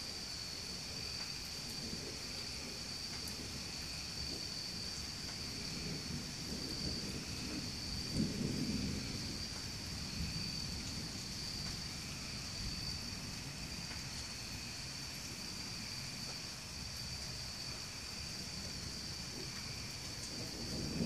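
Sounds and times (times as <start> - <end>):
rain: 0.0 - 21.0
low rumble of thunder: 0.1 - 21.0.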